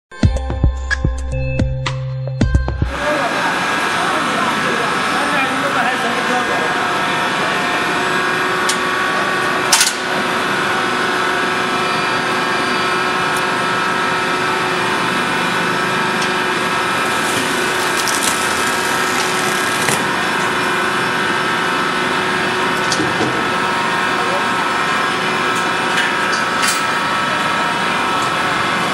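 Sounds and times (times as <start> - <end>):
hydraulic machine humming: 2.3 - 28.9.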